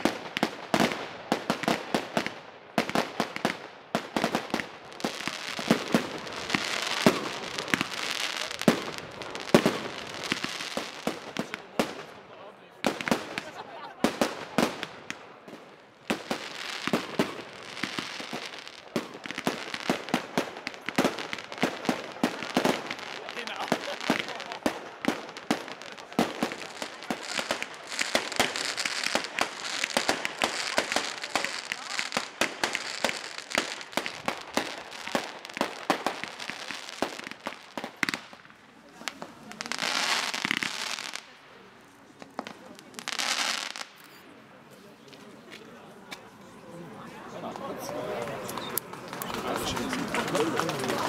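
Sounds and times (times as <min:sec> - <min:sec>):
fireworks crackling: 0:00.0 - 0:44.4, 0:47.2 - 0:51.0.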